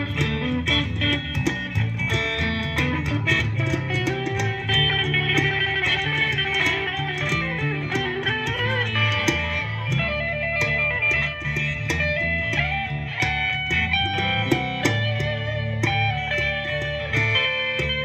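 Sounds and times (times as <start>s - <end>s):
bass line: 0.0s - 18.0s
drum beat: 0.0s - 18.0s
electric guitar lead with bends: 0.0s - 18.0s.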